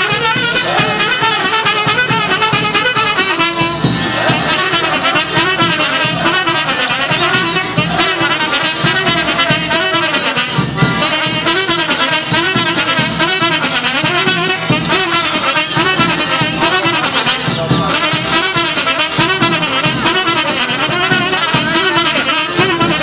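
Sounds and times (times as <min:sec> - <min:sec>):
brass band playing dance tune: 0:00.0 - 0:23.0.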